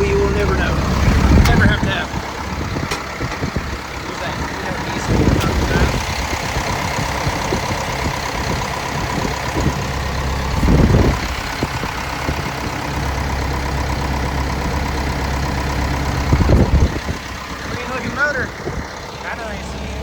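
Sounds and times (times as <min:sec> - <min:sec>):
diesel engine idling: 0:00.0 - 0:20.0
low bumps: 0:00.0 - 0:20.0.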